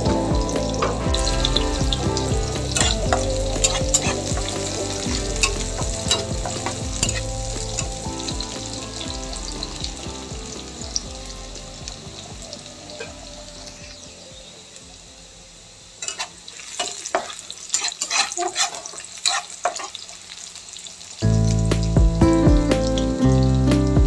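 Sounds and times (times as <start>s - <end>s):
sharp crackles: 0.0s - 23.8s
onion and garlic sizzling in oil: 0.0s - 23.9s.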